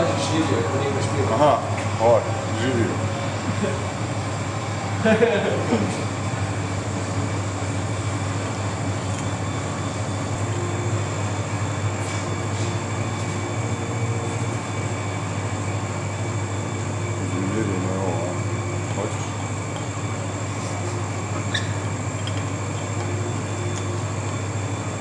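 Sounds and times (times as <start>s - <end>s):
machinery hum and hiss: 0.0s - 25.0s.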